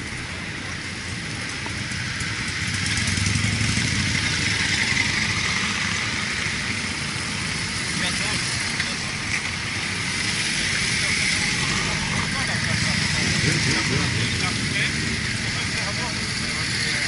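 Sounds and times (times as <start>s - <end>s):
motorcycles riding past: 1.0s - 17.0s.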